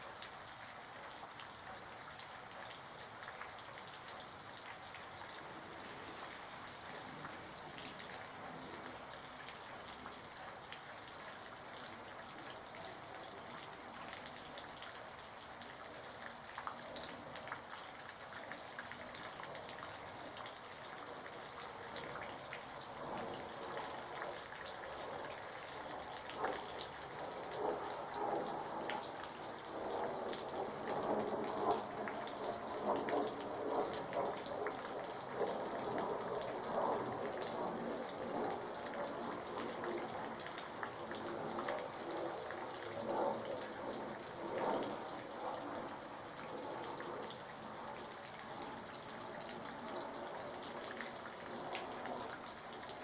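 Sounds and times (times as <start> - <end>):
rain pattering on surfaces: 0.0 - 53.0.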